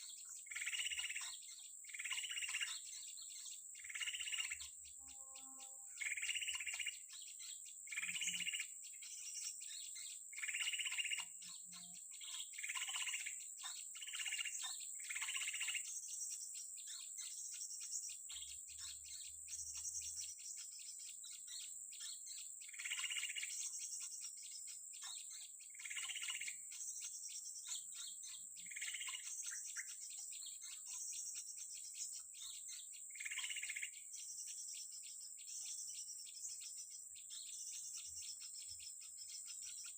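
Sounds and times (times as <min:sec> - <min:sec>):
birds chirping: 0:00.0 - 0:39.9
pulsing insect chorus: 0:00.0 - 0:39.9.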